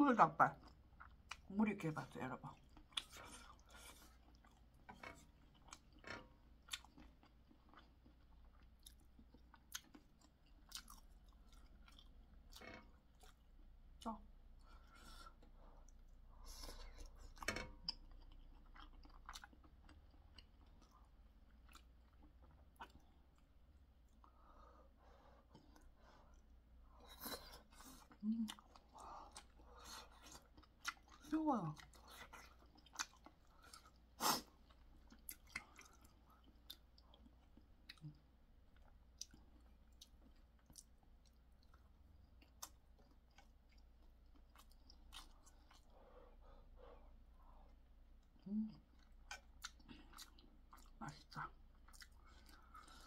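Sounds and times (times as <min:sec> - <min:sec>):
faint chewing: 0:02.5 - 0:53.0.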